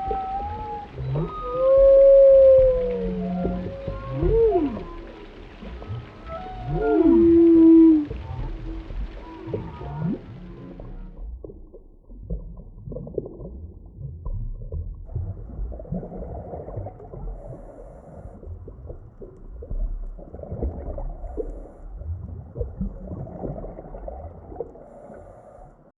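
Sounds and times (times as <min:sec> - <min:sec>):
low underwater rumble: 0:00.0 - 0:25.9
water bubbling and gurgling: 0:00.0 - 0:25.9.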